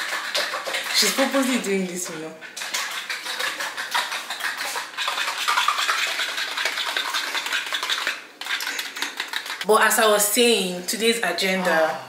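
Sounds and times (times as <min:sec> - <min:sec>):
utensil clattering against a bowl: 0:00.0 - 0:09.7.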